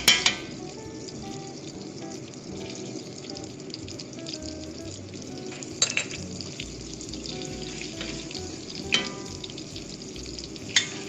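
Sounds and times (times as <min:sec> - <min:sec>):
garlic sizzling in oil: 0:00.0 - 0:11.0.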